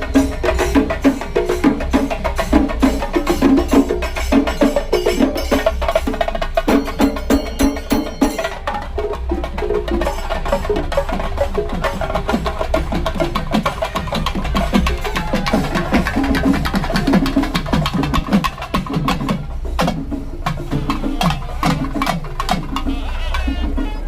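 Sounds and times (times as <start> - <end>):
rapid percussion ensemble drumming: 0.0 - 24.0.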